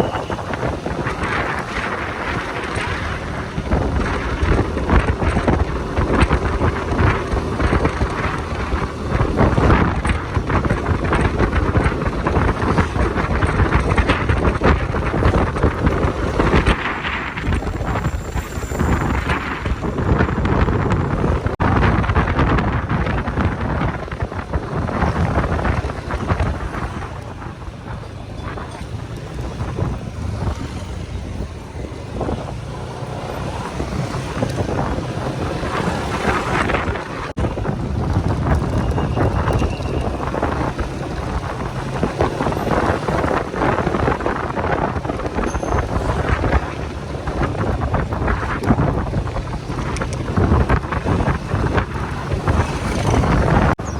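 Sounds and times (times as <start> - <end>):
faint motorcycle and road noise: 0.0 - 53.9
wind buffeting microphone: 0.0 - 53.9.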